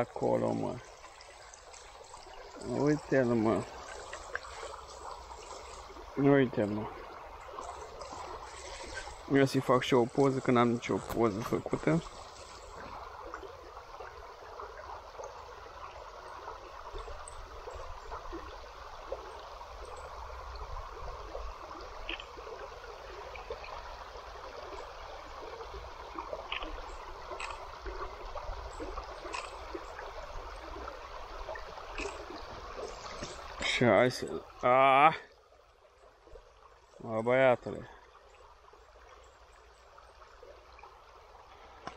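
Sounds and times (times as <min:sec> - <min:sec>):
river babbling over shallows: 0:00.0 - 0:41.9.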